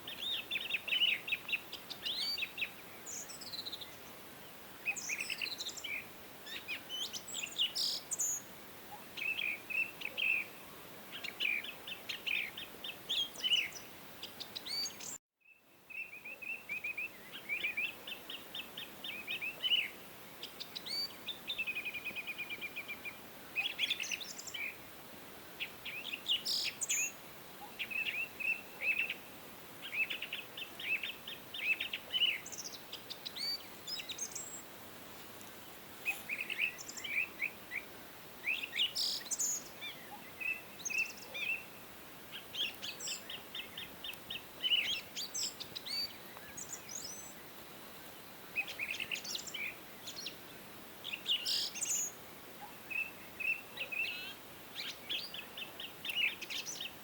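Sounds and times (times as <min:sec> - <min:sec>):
songbirds singing and chirping: 0:00.0 - 0:24.9, 0:25.6 - 0:57.0
faint steady hiss: 0:00.0 - 0:57.0.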